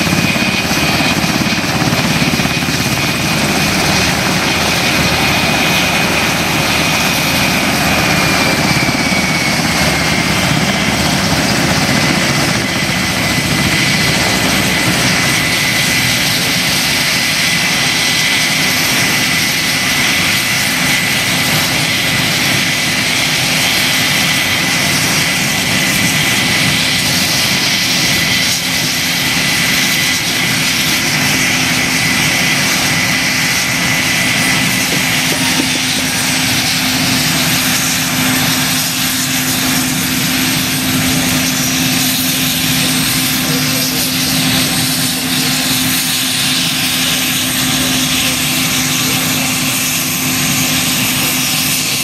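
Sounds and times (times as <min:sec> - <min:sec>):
helicopter engines and rotors running: 0:00.0 - 0:52.0
high turbine whine: 0:00.0 - 0:52.0.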